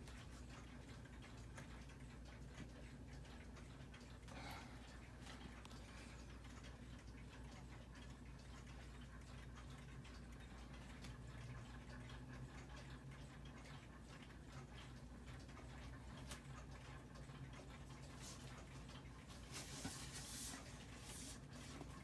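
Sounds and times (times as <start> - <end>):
clock ticking: 0.0 - 22.0.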